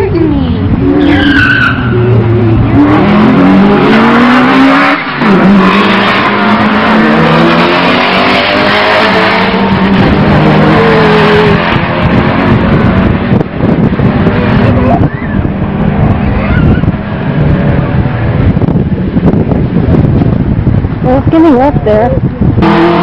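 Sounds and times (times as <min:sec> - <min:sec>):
drag car engines at full throttle: 0:00.0 - 0:23.0.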